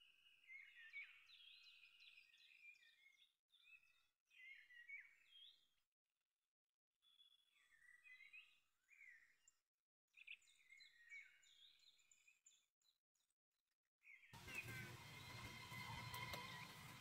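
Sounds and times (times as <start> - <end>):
faint birdsong chirps and whistles: 0.0 - 5.9, 7.0 - 13.3, 14.0 - 17.0.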